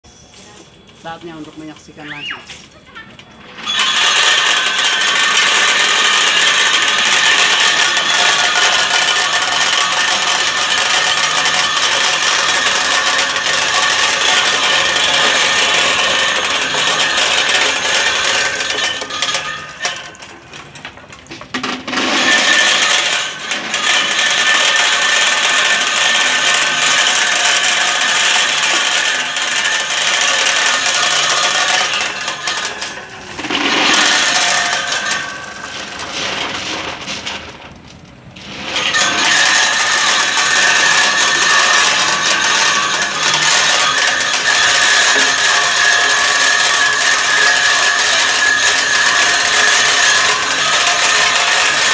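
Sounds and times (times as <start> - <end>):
machine whine: 0.0 - 51.9
nuts rattling and clattering: 3.3 - 51.9.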